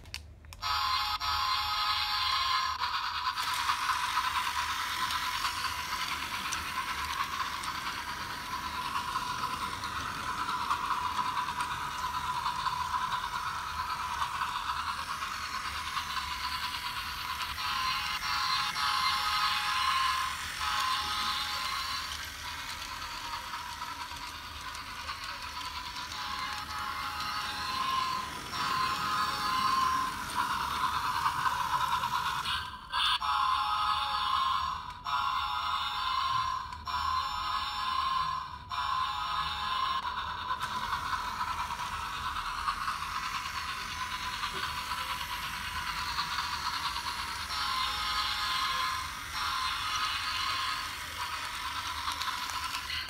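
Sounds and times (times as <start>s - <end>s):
toy train motor whirring: 0.0s - 53.0s.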